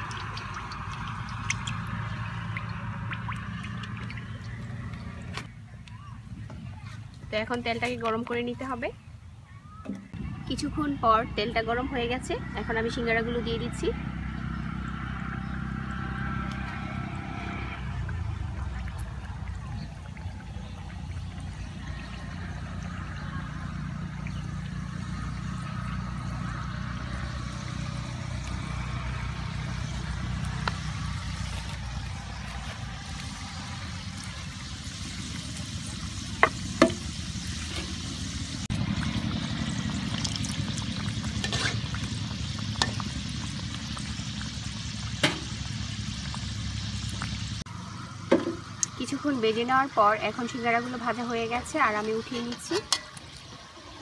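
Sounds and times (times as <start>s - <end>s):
food deep-frying in oil: 0.0s - 5.5s, 11.5s - 54.0s.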